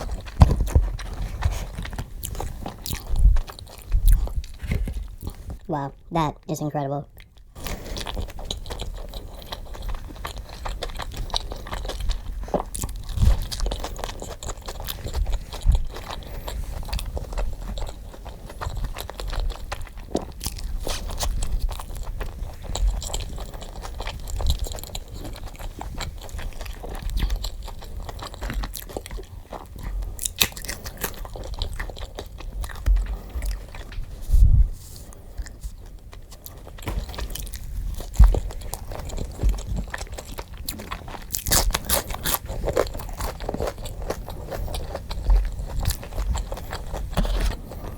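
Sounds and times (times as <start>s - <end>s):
crunchy bites and chewing: 0.0s - 5.6s, 7.2s - 34.2s, 35.1s - 47.9s.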